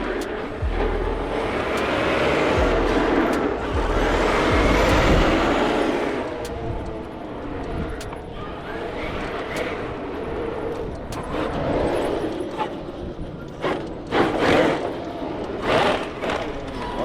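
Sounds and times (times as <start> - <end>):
electric rc truck running: 0.0 - 17.0.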